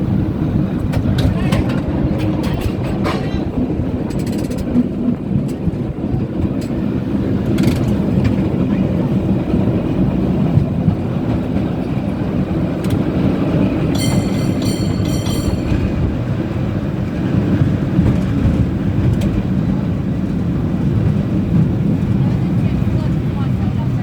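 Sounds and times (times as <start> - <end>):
cable car rumble and rattle: 0.0 - 24.0.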